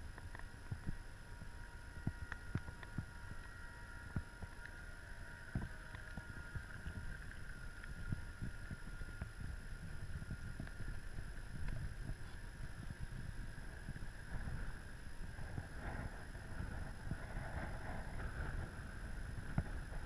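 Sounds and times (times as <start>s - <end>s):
electric motor whine: 0.0s - 20.0s
wind buffeting microphone: 0.7s - 20.0s.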